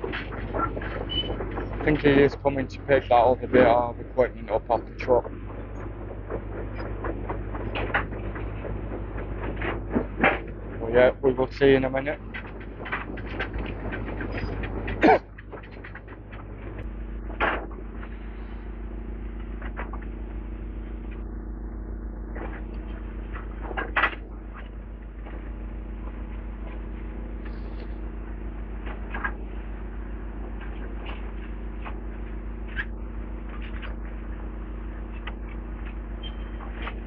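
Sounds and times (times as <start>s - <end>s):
diesel demolition machinery running: 0.0s - 37.0s.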